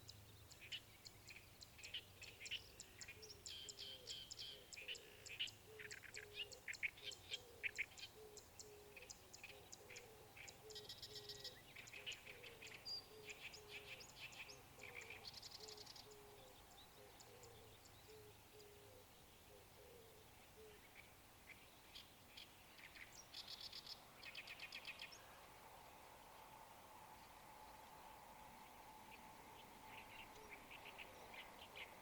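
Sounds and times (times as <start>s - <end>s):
birds chirping and singing: 0.0s - 26.0s, 28.6s - 32.0s.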